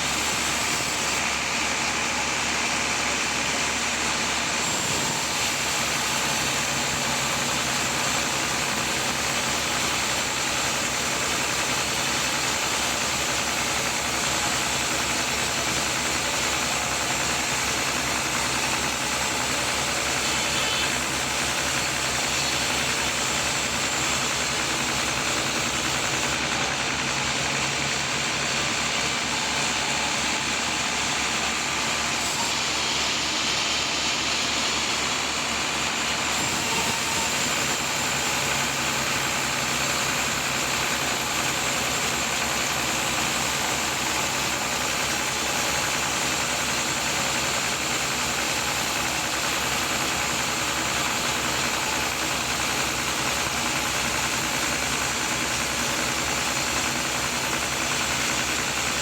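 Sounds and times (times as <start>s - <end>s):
sawmill engine drone: 0.0s - 59.0s.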